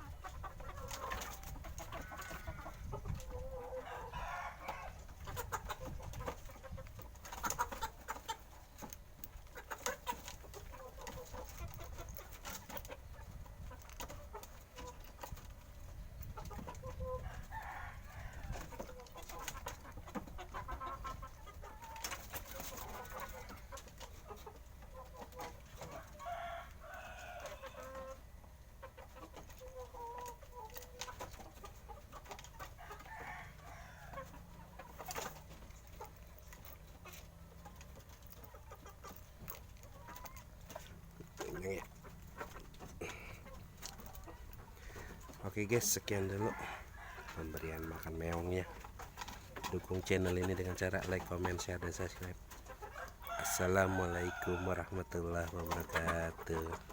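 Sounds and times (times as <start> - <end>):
chickens clucking: 0.0 - 56.9.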